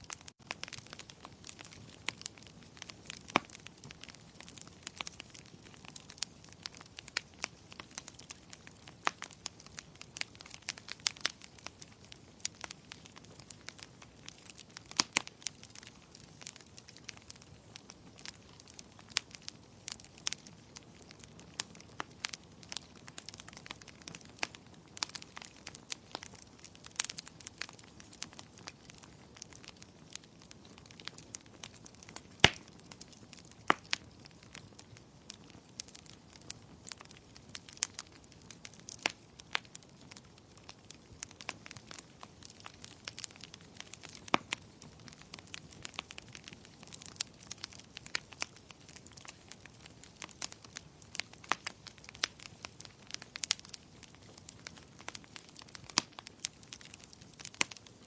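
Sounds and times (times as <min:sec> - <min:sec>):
soft steady hiss: 0:00.0 - 0:58.0
wood fire crackling and popping: 0:00.0 - 0:58.0.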